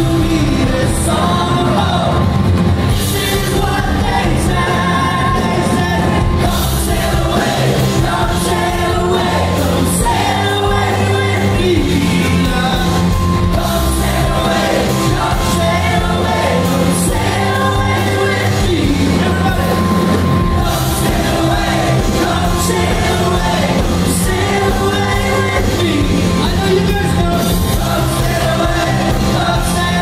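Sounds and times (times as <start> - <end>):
electric bass: 0.0 - 30.0
live band playing: 0.0 - 30.0
person singing: 0.0 - 30.0.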